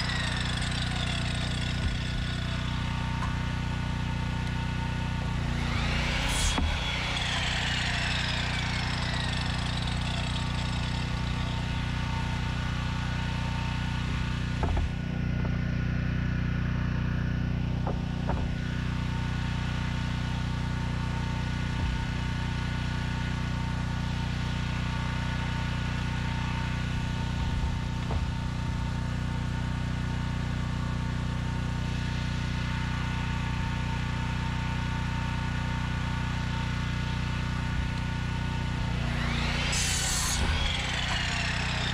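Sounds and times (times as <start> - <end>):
miter saw blade whining down: 0.0 - 15.5, 17.0 - 29.2, 32.1 - 41.9
motor droning steadily: 0.0 - 41.9.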